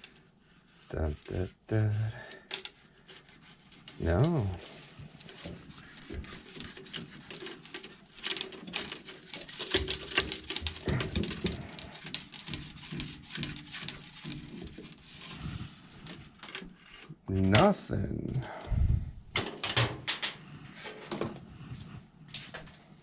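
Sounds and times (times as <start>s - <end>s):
clicking and scraping of parts: 0.0s - 23.0s.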